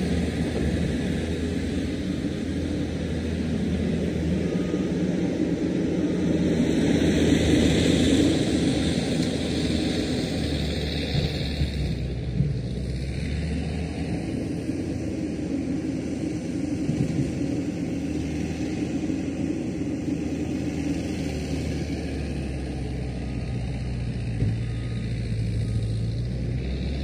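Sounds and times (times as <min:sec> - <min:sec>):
diesel engine rumbling: 0:00.0 - 0:27.0.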